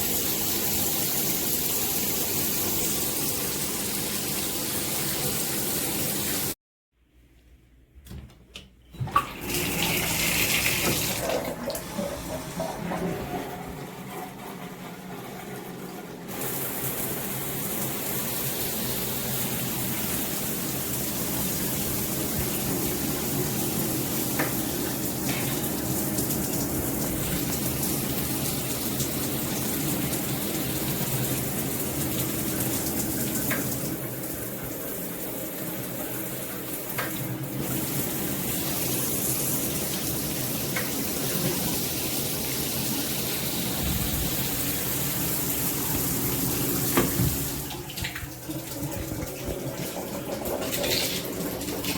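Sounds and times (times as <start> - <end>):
shower water spraying: 0.0 - 6.6, 9.3 - 12.3, 16.3 - 51.9.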